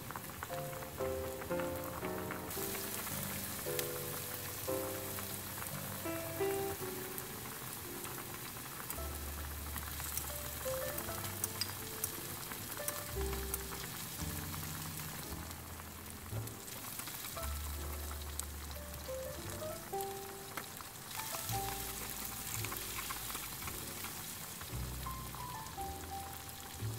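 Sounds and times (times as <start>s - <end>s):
vegetables sizzling in oil: 0.0s - 26.9s
soft background music: 0.2s - 26.9s.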